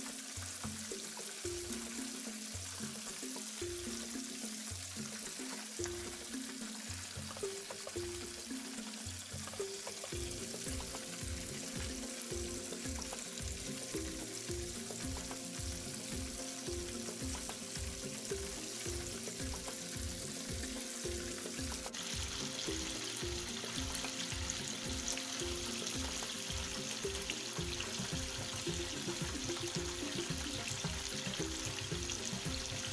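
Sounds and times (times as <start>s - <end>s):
background music with bass beat: 0.0s - 32.9s
oil bubbling and sizzling: 0.0s - 32.9s.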